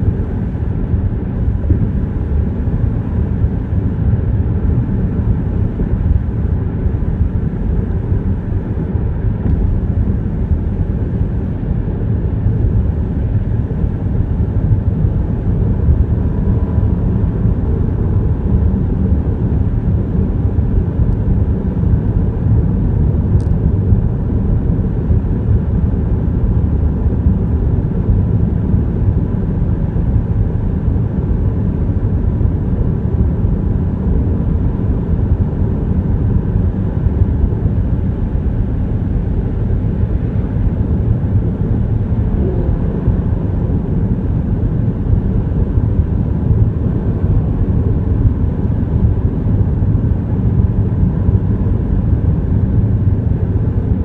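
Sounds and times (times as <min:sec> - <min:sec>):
tyre road noise in car: 0:00.0 - 0:54.0.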